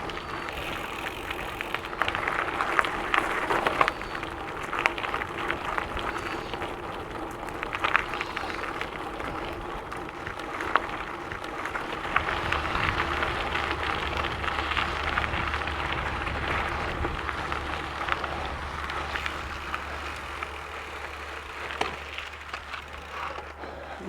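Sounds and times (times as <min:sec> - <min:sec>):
bike tyres crunching on gravel: 0:00.0 - 0:24.0.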